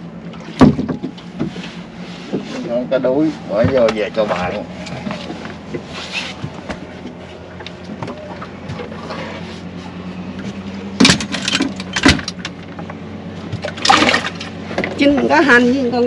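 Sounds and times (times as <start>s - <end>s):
engine running at low hum: 0.0s - 16.0s.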